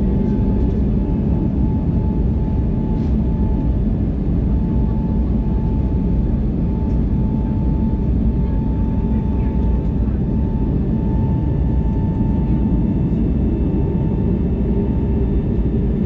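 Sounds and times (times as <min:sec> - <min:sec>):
airplane cabin engine rush: 0:00.0 - 0:16.0.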